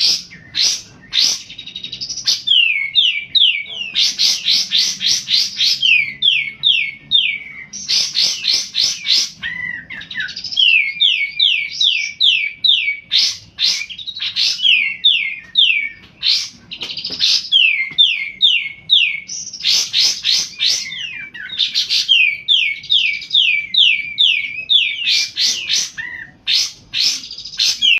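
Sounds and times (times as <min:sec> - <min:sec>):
sunbird singing: 0:00.0 - 0:27.9.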